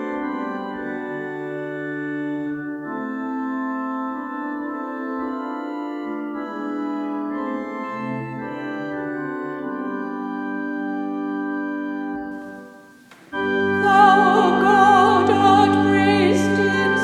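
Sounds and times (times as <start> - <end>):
church organ playing chords: 0.0 - 17.0.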